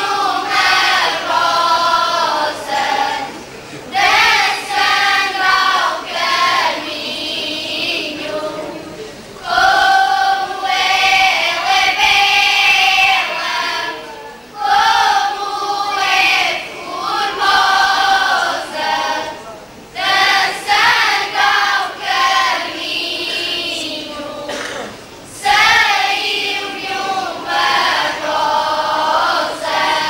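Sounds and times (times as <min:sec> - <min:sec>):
children's choir singing: 0:00.0 - 0:30.0.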